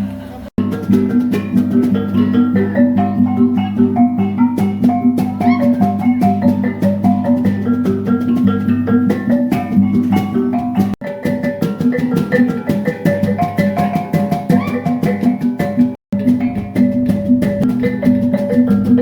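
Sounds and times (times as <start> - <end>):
tuned percussion melody: 0.6 - 19.0.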